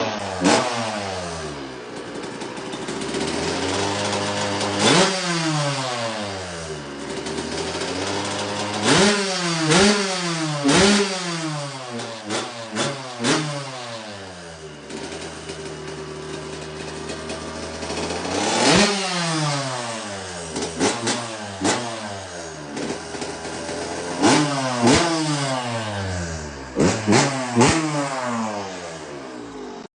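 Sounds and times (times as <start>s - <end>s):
two-stroke engine revving: 0.0s - 29.9s.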